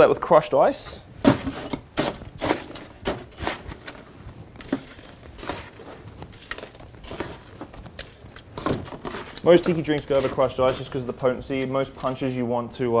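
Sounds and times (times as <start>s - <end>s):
crushed ice crunching: 1.2s - 12.3s.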